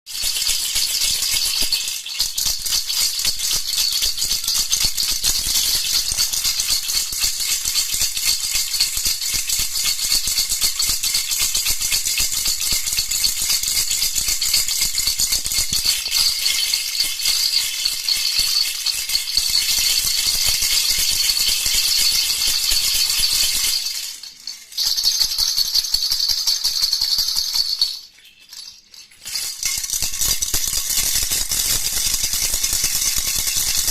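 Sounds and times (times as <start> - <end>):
baby rattle shaken: 0.1 - 33.9.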